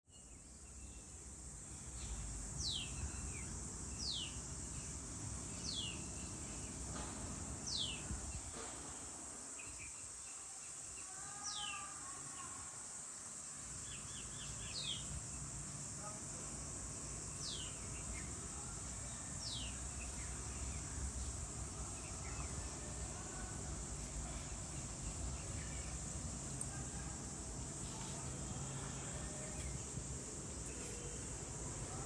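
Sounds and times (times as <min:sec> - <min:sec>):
high-pitched insect hum: 0:00.1 - 0:32.0.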